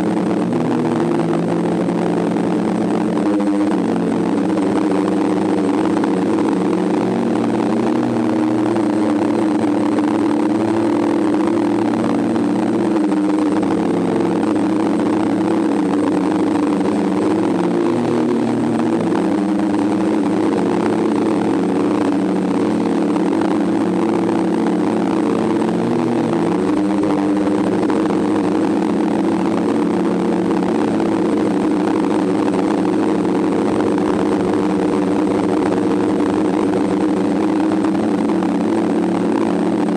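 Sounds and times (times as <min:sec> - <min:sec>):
drone motors and propellers: 0:00.0 - 0:39.9.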